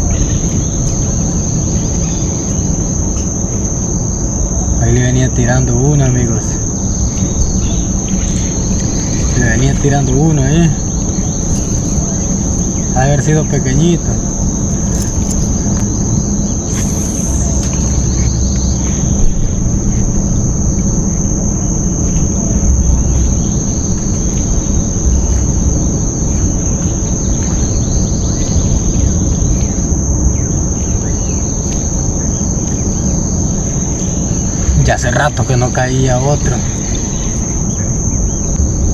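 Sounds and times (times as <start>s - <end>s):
high-pitched insect buzz: 0.0s - 38.9s
low rumble: 0.0s - 38.9s.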